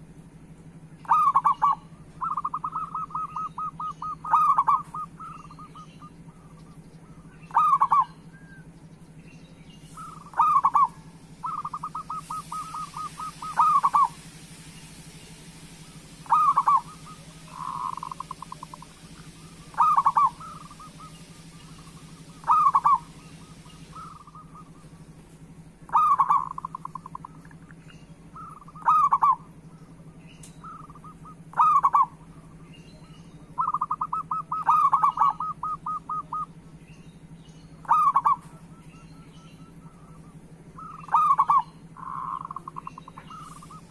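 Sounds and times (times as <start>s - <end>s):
steady low hum: 0.0s - 43.9s
dove cooing: 1.0s - 8.7s, 9.9s - 14.5s, 16.0s - 25.2s, 25.8s - 36.7s, 37.8s - 43.9s.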